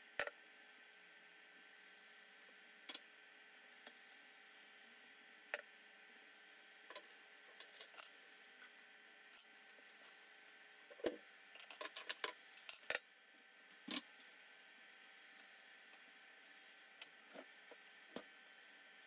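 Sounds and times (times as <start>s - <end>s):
faint hob hum: 0.0s - 19.0s.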